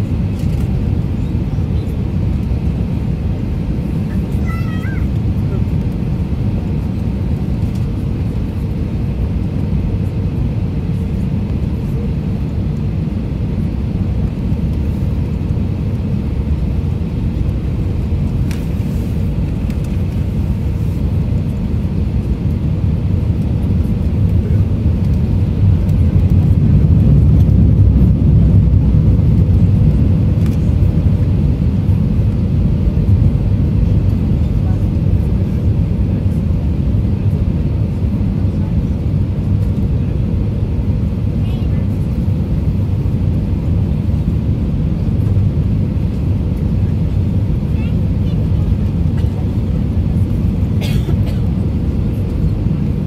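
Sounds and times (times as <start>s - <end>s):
aircraft cabin rumble: 0.0s - 53.0s.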